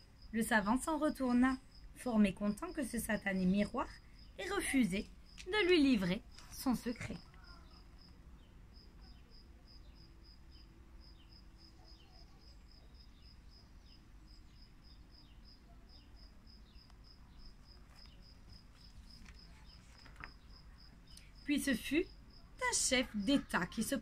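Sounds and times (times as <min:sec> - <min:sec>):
faint cricket chirping: 0:00.0 - 0:24.0.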